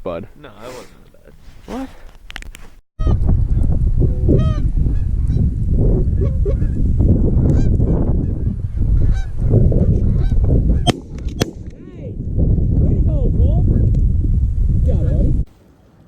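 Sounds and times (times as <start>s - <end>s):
wind noise on microphone: 2.1s - 15.5s.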